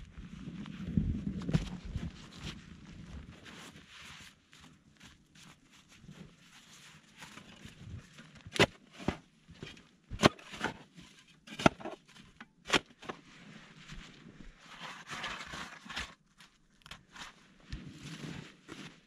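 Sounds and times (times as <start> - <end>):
rustling and scuffing: 0.6 - 11.2, 13.0 - 19.0.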